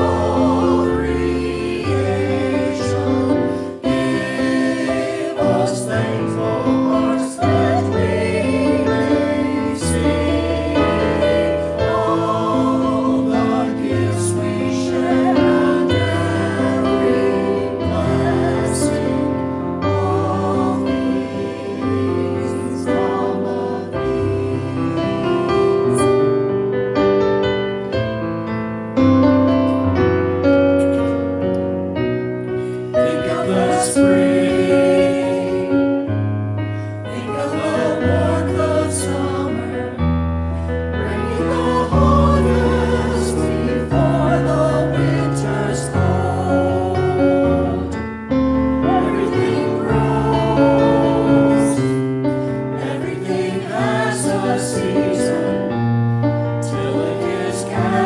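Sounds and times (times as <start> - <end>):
church choir singing: 0.0 - 26.8, 31.9 - 58.0
piano accompaniment: 0.0 - 58.0.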